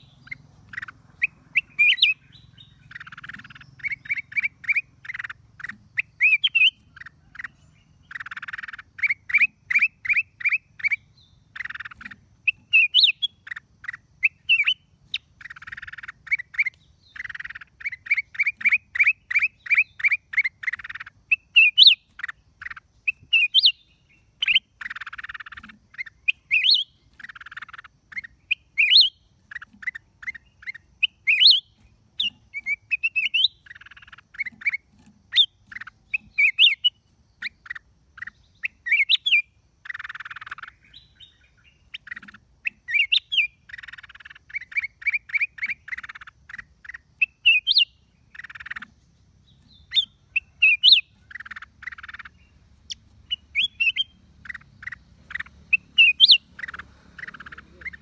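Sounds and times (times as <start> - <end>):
bird whistled calls: 0.0 - 48.8, 49.7 - 58.0
bird harsh raspy calls: 0.0 - 58.0.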